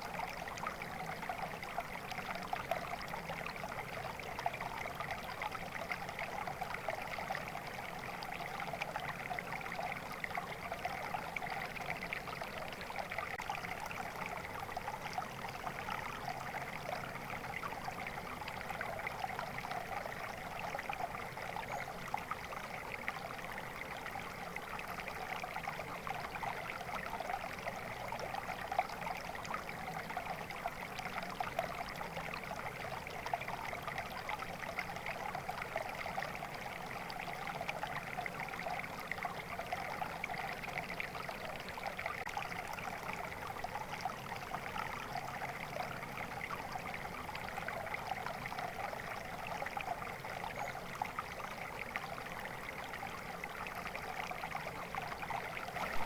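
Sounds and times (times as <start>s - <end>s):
small stream flowing and trickling: 0.0s - 56.0s.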